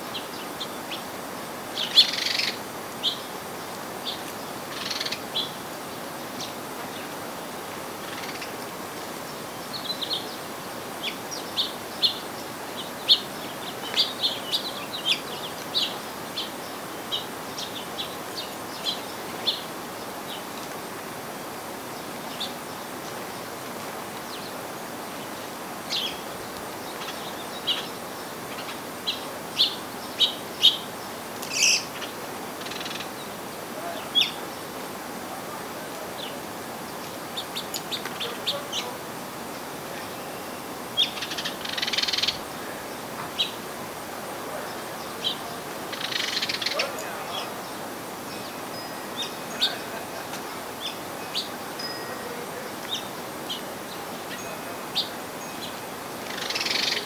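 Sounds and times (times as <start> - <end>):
small birds chirping: 0.0 - 57.0
steady hiss: 0.0 - 57.0.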